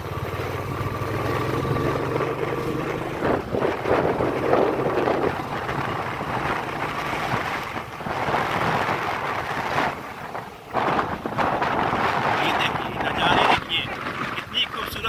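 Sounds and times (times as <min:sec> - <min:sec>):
motorcycle engine hum: 0:00.0 - 0:15.0
wind buffeting microphone: 0:00.0 - 0:15.0.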